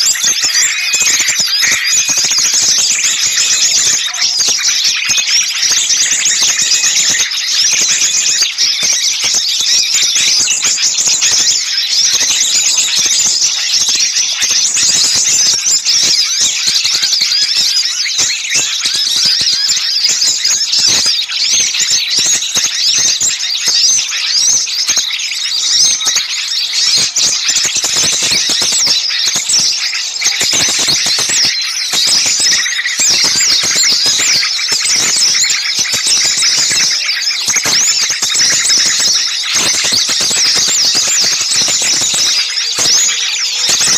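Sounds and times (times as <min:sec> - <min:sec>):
chorus of songbirds calling: 0:00.0 - 0:43.9.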